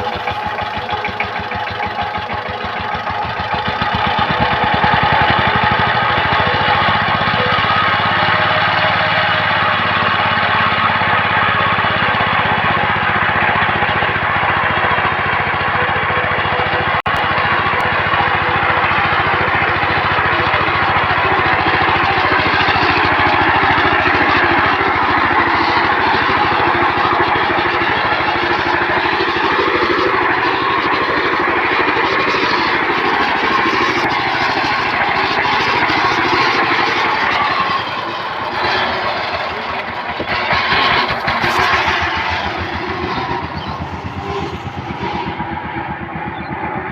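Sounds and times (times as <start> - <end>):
tiller engine running: 0.0 - 46.9.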